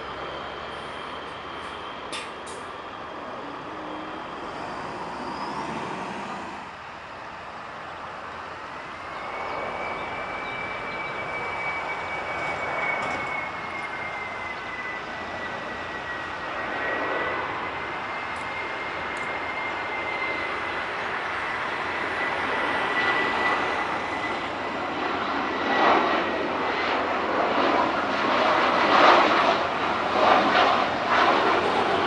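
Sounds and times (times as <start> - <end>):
jet engine high whine: 0.0 - 32.0
jet engines rumbling: 0.0 - 32.0.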